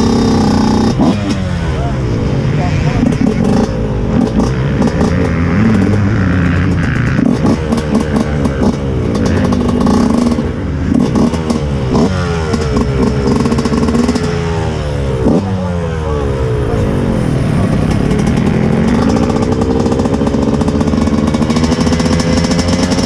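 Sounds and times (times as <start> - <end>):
engine throttle blips: 0.0 - 23.0
motocross bike engines idling: 0.0 - 23.0.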